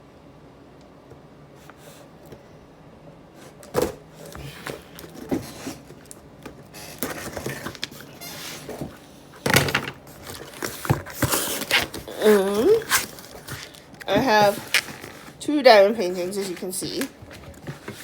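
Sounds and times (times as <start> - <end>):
packaging rustling and crackling: 3.5 - 18.0.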